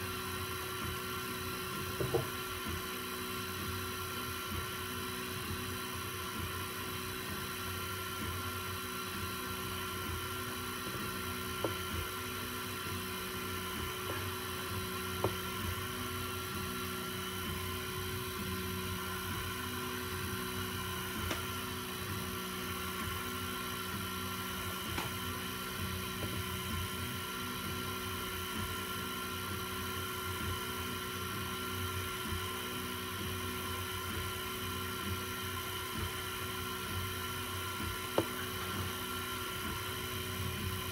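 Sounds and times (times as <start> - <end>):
cooling fans humming: 0.6 - 40.9.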